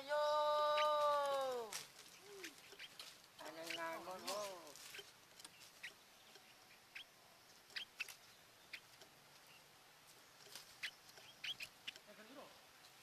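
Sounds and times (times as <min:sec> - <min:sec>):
faint small bird chirps: 0:00.6 - 0:13.0.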